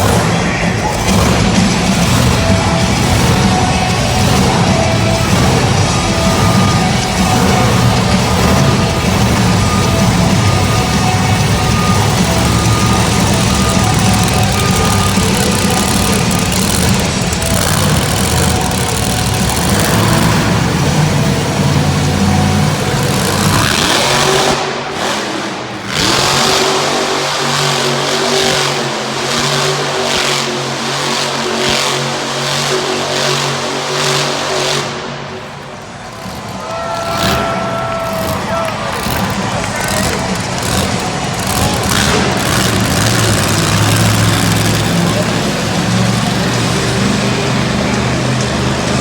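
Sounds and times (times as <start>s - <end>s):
monster truck engine revving: 0.0s - 49.0s.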